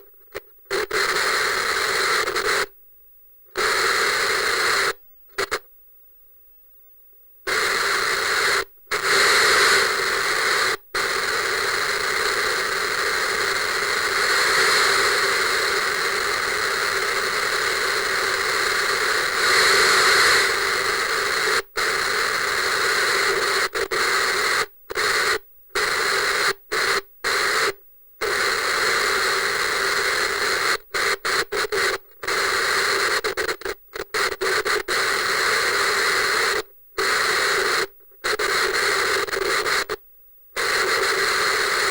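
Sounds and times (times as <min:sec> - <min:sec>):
television static hiss: 0:00.0 - 0:02.8, 0:03.5 - 0:05.7, 0:07.5 - 0:41.9.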